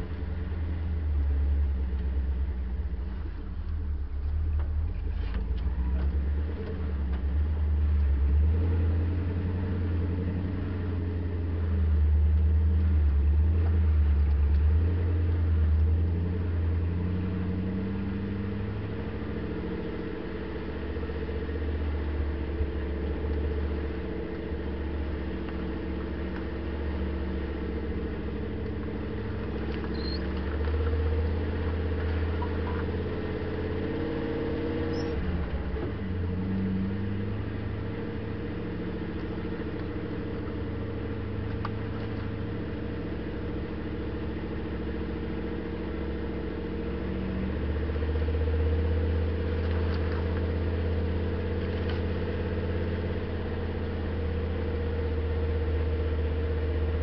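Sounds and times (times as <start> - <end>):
vehicle engine driving: 0.0 - 57.0.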